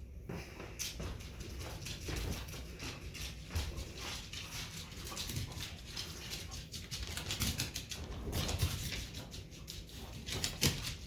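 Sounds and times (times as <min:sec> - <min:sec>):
dog paws pattering and scuffling: 0:00.0 - 0:11.0.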